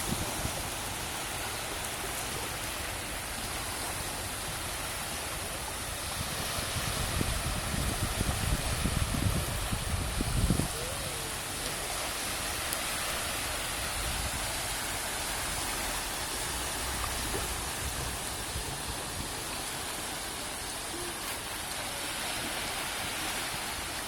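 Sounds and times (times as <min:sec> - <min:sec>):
sea surf washing ashore: 0:00.0 - 0:24.0.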